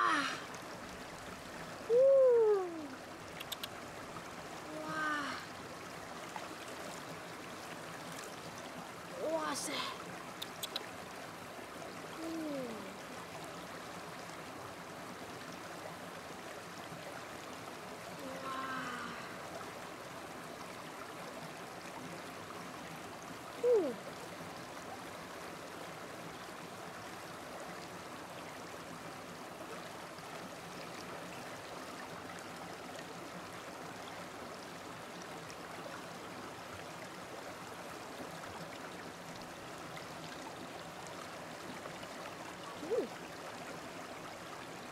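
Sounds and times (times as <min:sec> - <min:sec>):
stream running over rocks: 0:00.0 - 0:44.9.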